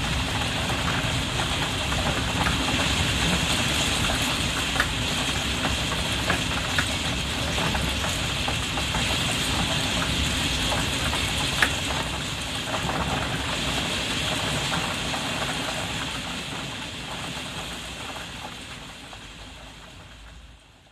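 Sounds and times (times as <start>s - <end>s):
rain drumming on a skylight: 0.0s - 20.9s.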